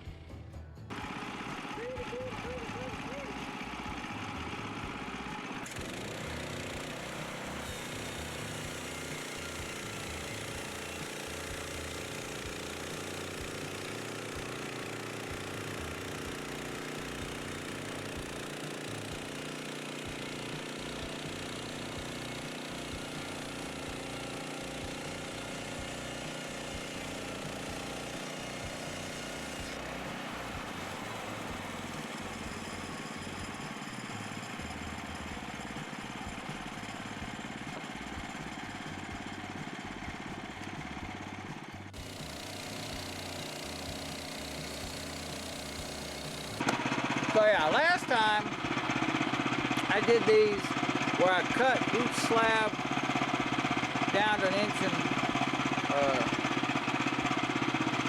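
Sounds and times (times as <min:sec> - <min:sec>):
sawmill gas engine running: 0:00.0 - 0:58.0.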